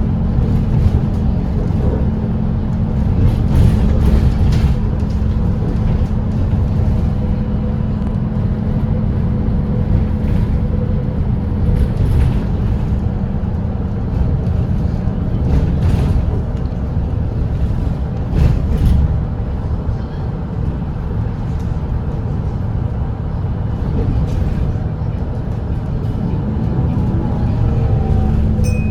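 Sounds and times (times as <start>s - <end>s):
road knocks and rattles: 0.0s - 28.6s
bus diesel engine drone: 0.0s - 28.9s.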